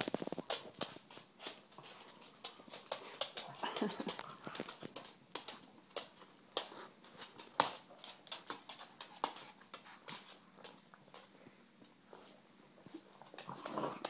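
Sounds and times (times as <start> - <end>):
dog claws clicking on wooden floor: 0.0 - 11.3.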